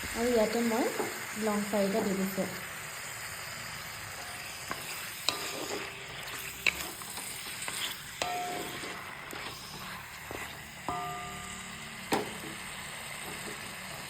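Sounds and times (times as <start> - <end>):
chicken sizzling in a pan: 0.0 - 14.0.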